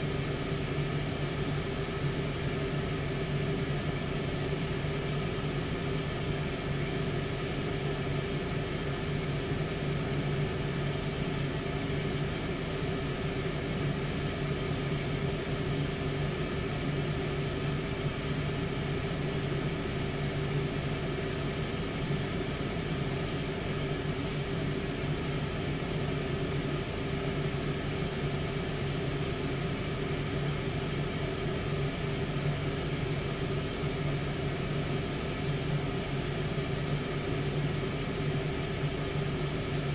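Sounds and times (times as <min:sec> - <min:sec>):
air fryer fan humming: 0:00.0 - 0:39.9.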